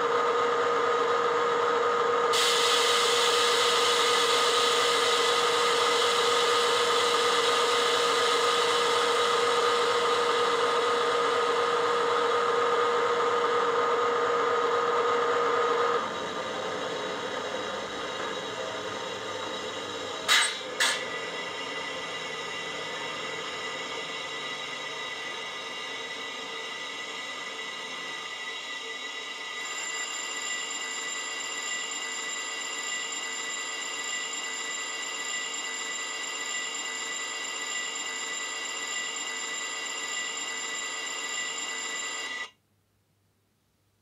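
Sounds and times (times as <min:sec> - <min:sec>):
diesel locomotive idling: 0:00.0 - 0:42.4.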